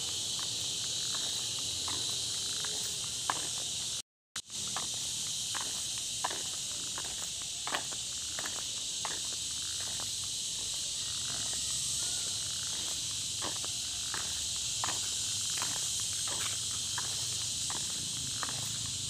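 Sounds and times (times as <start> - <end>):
footsteps on paved road: 0.0 - 19.0
high-pitched insect chorus: 0.0 - 19.0.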